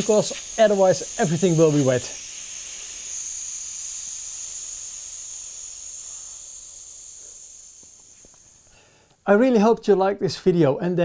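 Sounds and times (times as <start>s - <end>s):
pressure release hiss: 0.0s - 9.2s.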